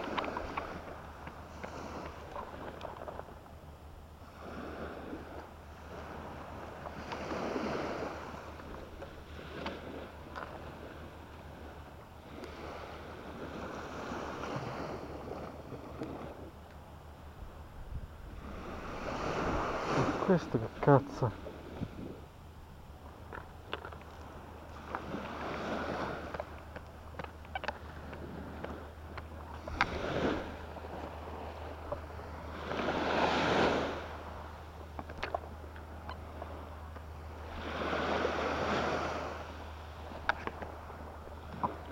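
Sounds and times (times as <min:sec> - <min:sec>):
sea waves washing onto shore: 0:00.0 - 0:03.6, 0:04.2 - 0:16.6, 0:17.2 - 0:41.9.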